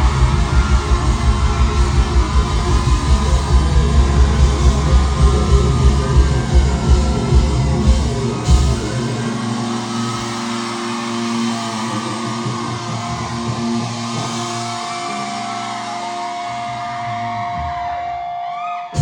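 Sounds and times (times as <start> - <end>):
live rock band: 0.0 - 19.0.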